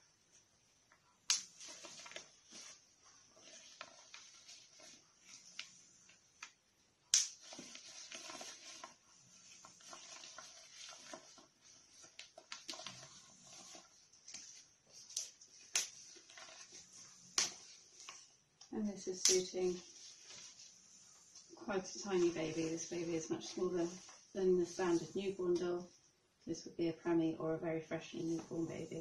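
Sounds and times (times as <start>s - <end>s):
cloth rustling: 0.1s - 26.2s.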